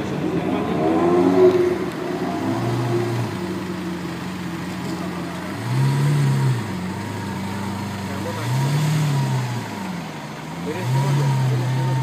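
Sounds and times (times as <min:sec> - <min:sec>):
sports car engine idling: 0:00.0 - 0:12.0.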